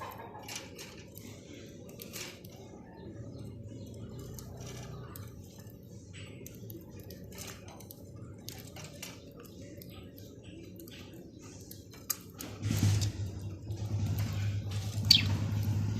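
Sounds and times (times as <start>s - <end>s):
birds clicking and tapping in cage: 0.0s - 15.9s.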